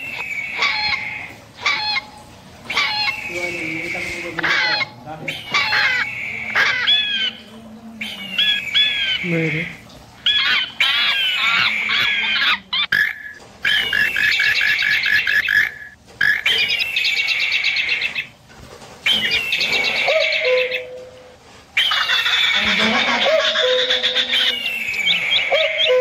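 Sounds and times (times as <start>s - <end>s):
bird calls and chirps: 0.0s - 7.4s, 10.2s - 18.4s, 19.0s - 21.1s, 21.8s - 22.8s, 23.4s - 26.0s.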